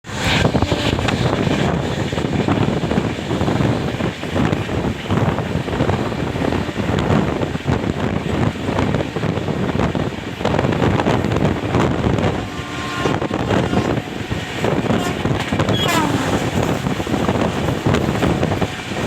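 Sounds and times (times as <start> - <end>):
train rumbling: 0.0 - 19.0
wind buffeting microphone: 0.0 - 19.0.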